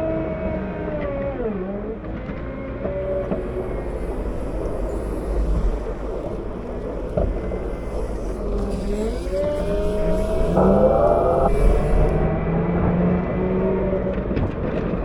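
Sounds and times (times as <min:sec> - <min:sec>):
diesel engine revving: 0:02.4 - 0:15.0.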